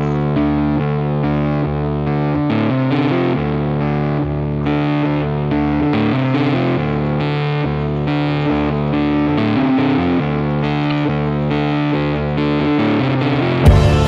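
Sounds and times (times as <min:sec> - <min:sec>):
distorted guitar chords: 0:00.0 - 0:14.0.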